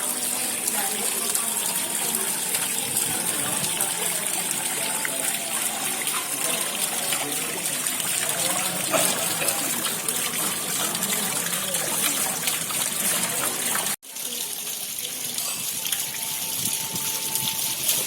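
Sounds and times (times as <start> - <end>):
faint murmur of voices: 0.0 - 18.0
running splashing water: 0.0 - 18.0.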